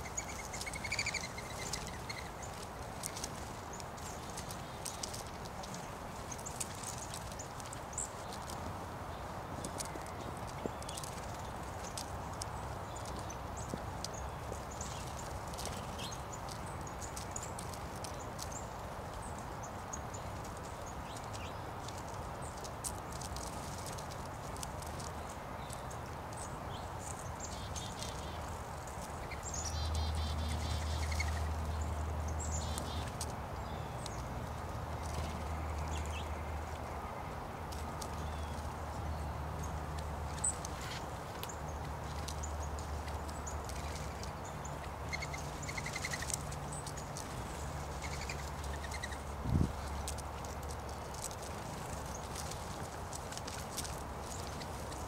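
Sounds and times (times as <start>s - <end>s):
songbirds chipping and twittering: 0.0s - 55.0s.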